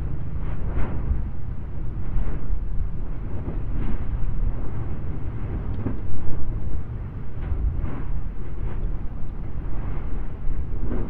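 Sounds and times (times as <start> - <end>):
deep volcanic rumble: 0.0 - 11.0.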